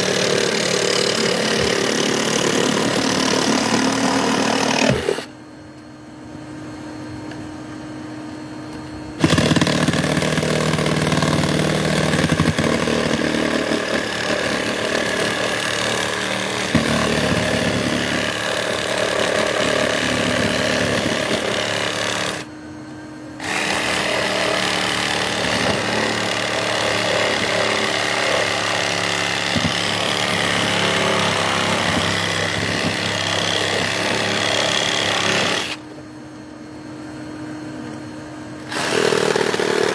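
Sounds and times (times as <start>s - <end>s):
handheld power tool running: 0.0s - 5.3s, 9.2s - 22.5s, 23.4s - 35.8s, 38.7s - 39.9s
steady low hum: 5.2s - 38.7s.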